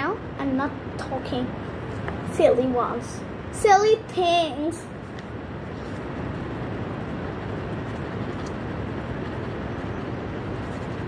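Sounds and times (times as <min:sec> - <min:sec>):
steady rushing rumble: 0:00.1 - 0:11.0.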